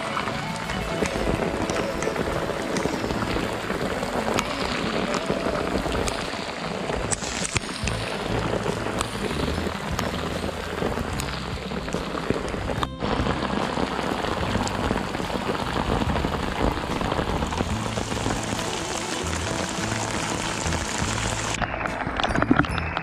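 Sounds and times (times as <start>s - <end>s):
heavy rain on sea surface: 0.0s - 22.4s
rain drop ticks: 0.0s - 23.0s.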